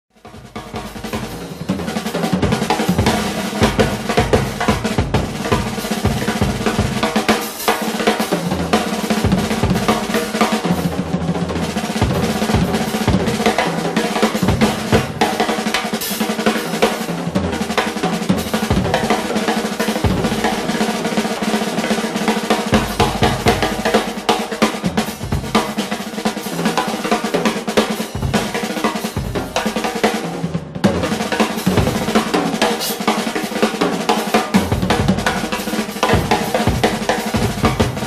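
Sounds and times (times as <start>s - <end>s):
rapid drum kit playing: 0.1s - 38.0s.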